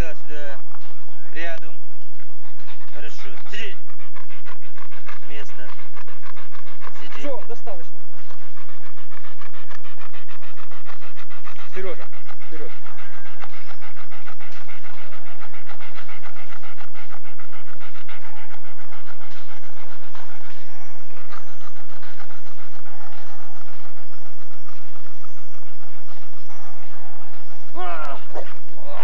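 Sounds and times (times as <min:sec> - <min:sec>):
dog panting hard: 0:00.0 - 0:29.0.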